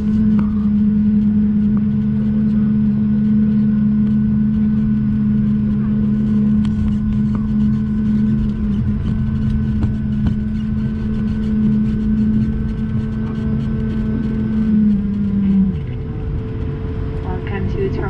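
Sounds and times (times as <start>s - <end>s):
jet engine hum: 0.0s - 18.0s
low rumble: 0.0s - 18.0s.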